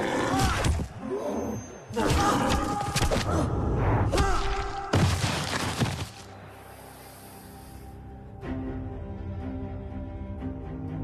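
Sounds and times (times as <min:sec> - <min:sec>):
dramatic film score: 0:00.0 - 0:11.0.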